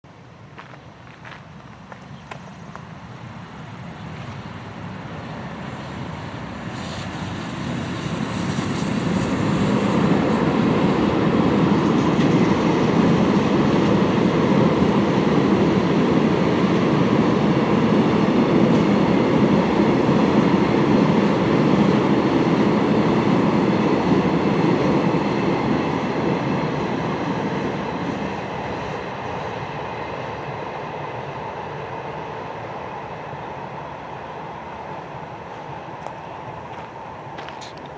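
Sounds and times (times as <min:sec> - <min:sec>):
electric locomotive passing: 0:00.1 - 0:37.9.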